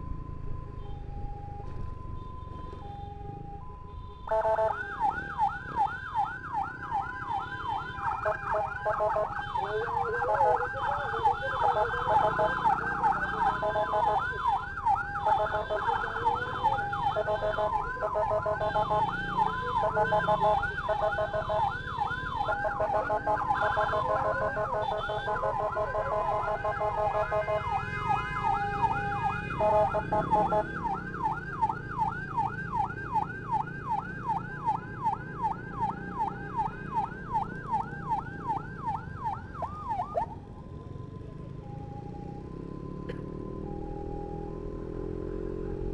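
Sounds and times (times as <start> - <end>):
siren yelping: 0.7 - 40.5, 41.4 - 45.9
steady and chopped siren tones: 1.1 - 40.4.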